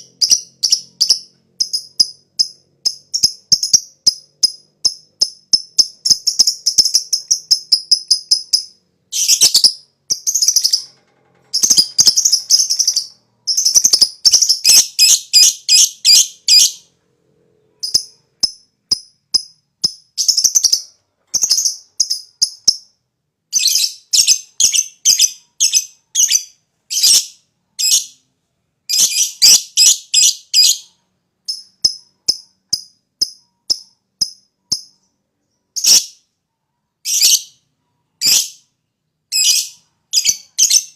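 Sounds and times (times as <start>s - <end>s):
lovebird chirping: 0.0s - 40.9s.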